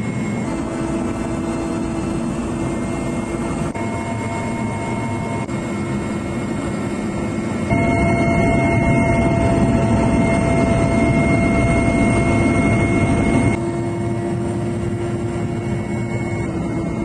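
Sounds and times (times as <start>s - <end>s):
large vehicle engine with high whine: 0.0s - 17.0s.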